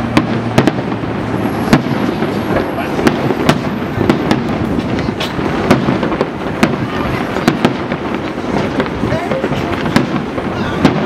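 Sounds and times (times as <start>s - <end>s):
fireworks bangs: 0.0s - 11.0s
steady background noise: 0.0s - 11.0s.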